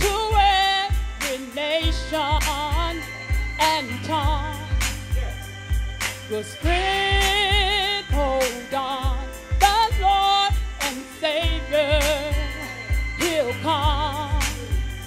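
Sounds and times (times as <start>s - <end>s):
woman singing gospel: 0.0s - 4.9s, 6.2s - 15.0s
band playing steady beat: 0.0s - 15.0s.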